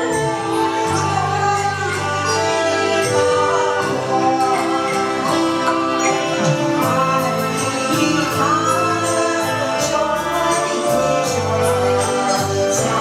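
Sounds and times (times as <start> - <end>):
pop ballad backing track: 0.0 - 13.0
woman singing: 0.0 - 13.0.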